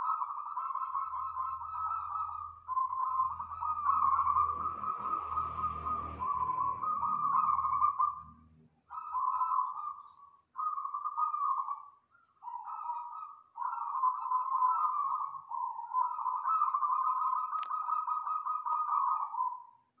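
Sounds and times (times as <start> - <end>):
dove cooing: 0.0 - 19.8.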